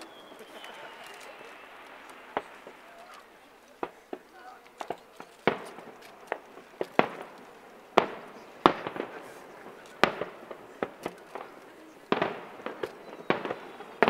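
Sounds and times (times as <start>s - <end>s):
fireworks bangs with rolling echo: 0.0s - 14.0s.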